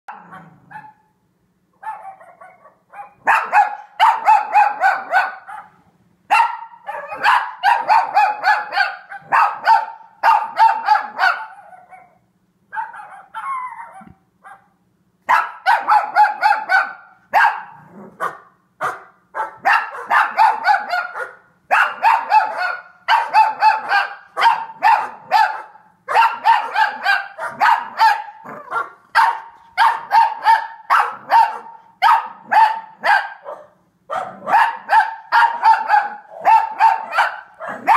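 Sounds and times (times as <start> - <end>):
dog barking and yipping: 0.1 - 1.1, 1.8 - 37.9.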